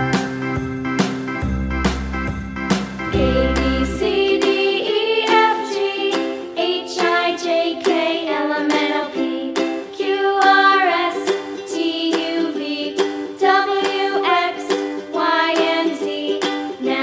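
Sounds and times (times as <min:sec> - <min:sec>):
light plucked music: 0:00.0 - 0:17.0.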